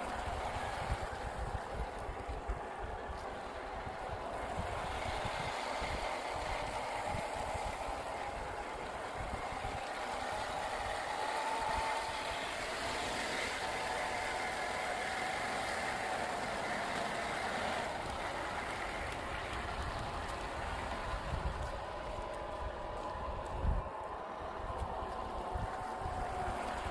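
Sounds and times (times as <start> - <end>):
low uneven rumble: 0.0 - 26.9
toy car motor whining: 0.0 - 26.9.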